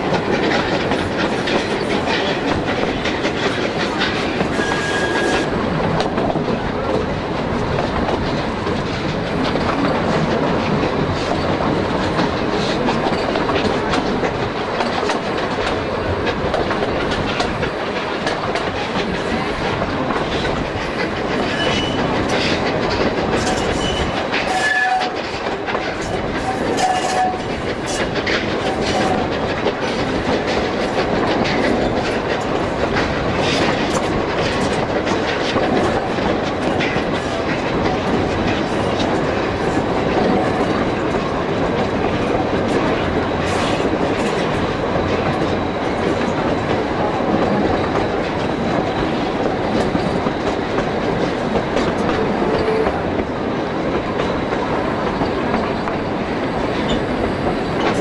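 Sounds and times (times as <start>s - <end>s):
train running noise: 0.0s - 58.0s
train wheels clicking over rail joints: 0.0s - 58.0s.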